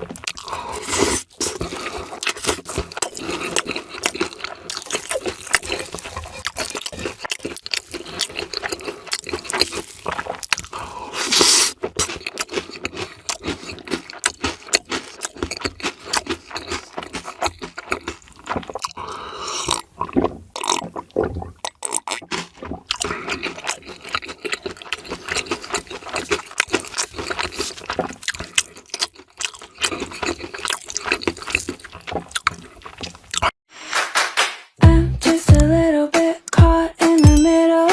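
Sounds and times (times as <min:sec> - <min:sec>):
crunching and chewing fried food: 0:00.0 - 0:33.6.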